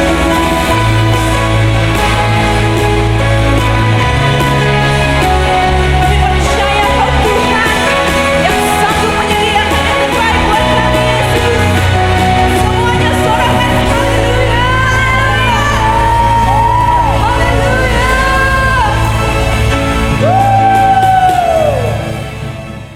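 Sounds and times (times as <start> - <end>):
worship band music: 0.0 - 22.9.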